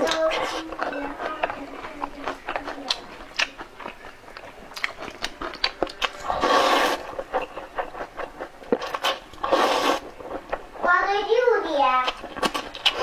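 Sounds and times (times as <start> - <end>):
person chewing: 0.0 - 10.9, 12.0 - 13.0.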